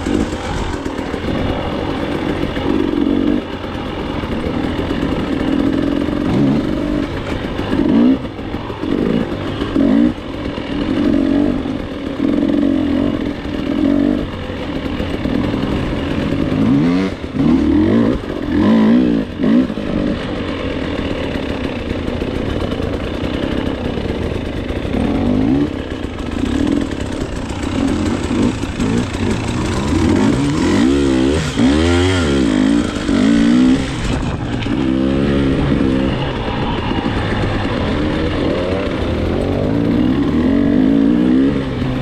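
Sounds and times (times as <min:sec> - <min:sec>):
two-stroke dirt bike engine revving: 0:00.0 - 0:42.0.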